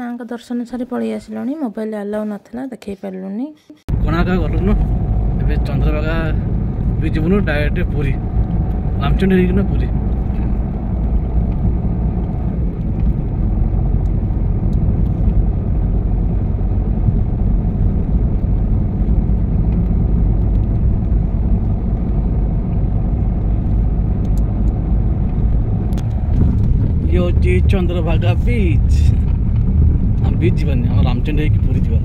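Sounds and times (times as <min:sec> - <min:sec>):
car road and engine noise: 0:03.9 - 0:32.0.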